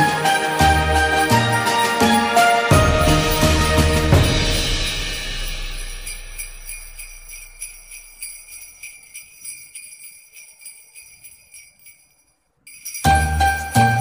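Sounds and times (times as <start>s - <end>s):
sleigh bells shaken: 0.0s - 14.0s.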